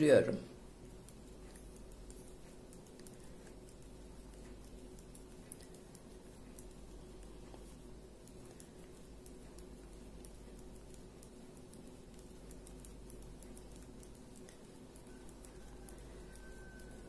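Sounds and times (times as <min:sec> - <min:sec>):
low steady hum: 0:00.0 - 0:17.0
knitting needles clicking: 0:00.6 - 0:17.0.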